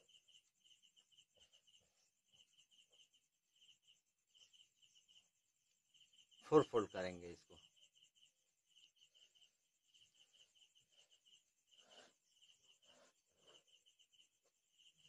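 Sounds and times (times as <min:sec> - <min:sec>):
faint cricket chirping: 0:00.0 - 0:15.0.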